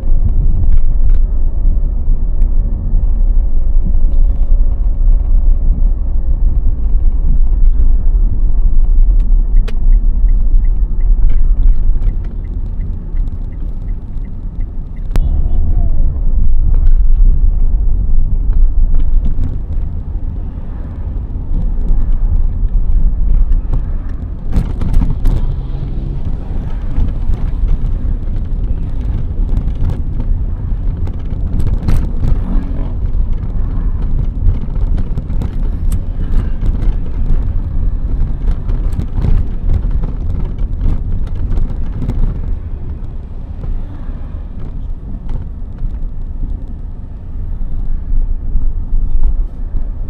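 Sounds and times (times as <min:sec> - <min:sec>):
passing cars rumbling: 0:00.0 - 0:50.0.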